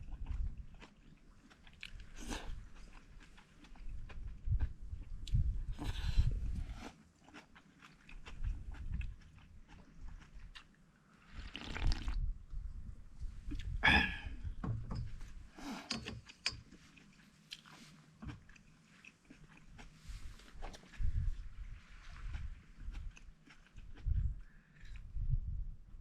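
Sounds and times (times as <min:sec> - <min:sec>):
person chewing crunchy food: 0:00.0 - 0:12.2, 0:16.6 - 0:25.2.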